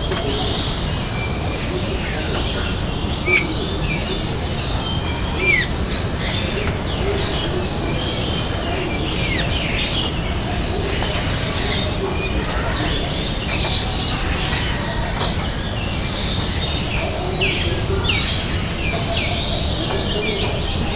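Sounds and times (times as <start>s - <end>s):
birds chirping and whistling: 0.0s - 20.9s.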